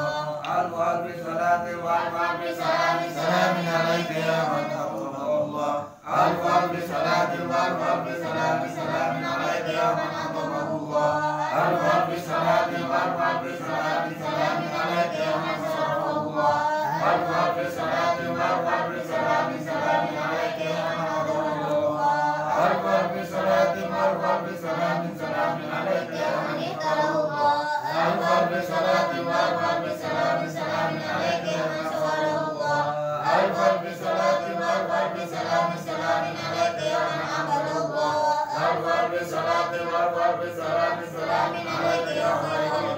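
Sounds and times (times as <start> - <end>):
men chanting together: 0.0 - 42.9.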